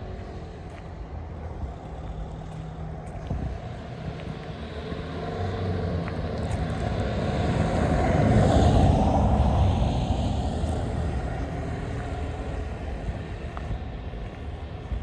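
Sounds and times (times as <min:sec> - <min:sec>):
vehicle passing by: 0:00.0 - 0:14.8.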